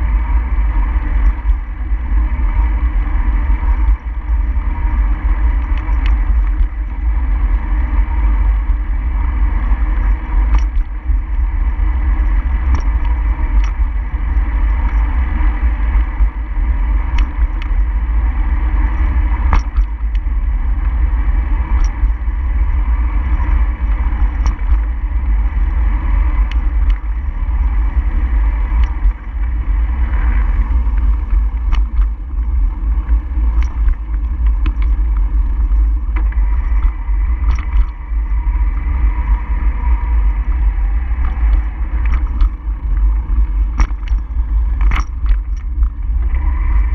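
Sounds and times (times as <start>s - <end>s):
wind and road noise rumble: 0.0s - 46.9s
light clicks and rattles: 3.6s - 7.1s, 9.1s - 16.4s, 17.0s - 18.0s, 18.8s - 22.2s, 23.2s - 46.9s.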